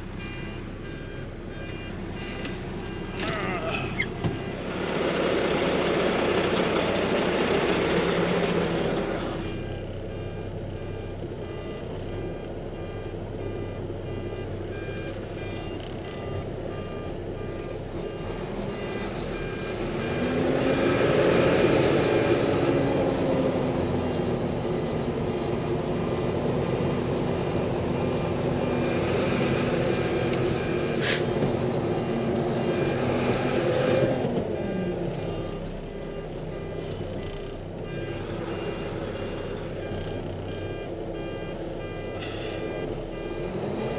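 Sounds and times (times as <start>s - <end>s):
backup alarm beeping: 0.0s - 43.9s
heavy diesel machinery running: 0.0s - 43.9s.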